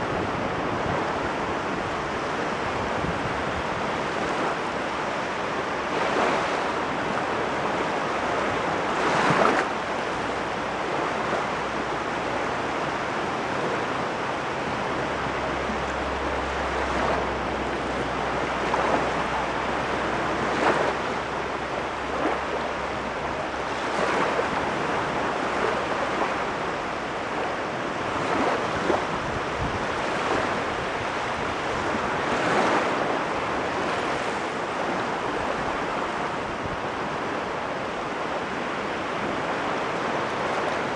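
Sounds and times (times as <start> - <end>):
waves breaking: 0.0 - 40.9
water washing on shore: 0.1 - 40.9.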